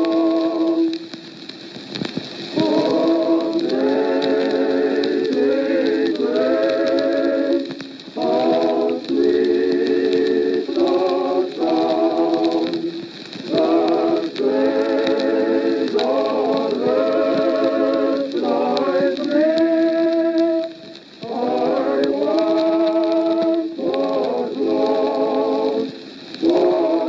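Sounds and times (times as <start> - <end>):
singing with vibrato: 0.0 - 1.2, 2.5 - 27.0.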